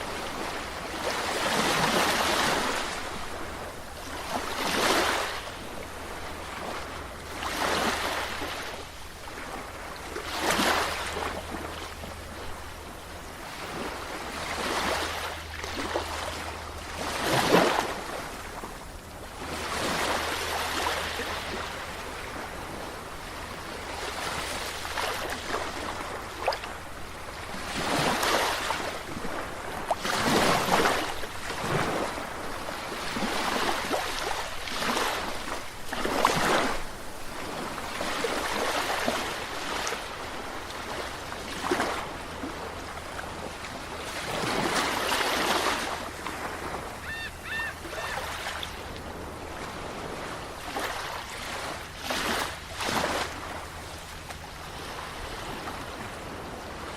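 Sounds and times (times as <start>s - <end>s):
sea waves breaking: 0.0s - 56.9s.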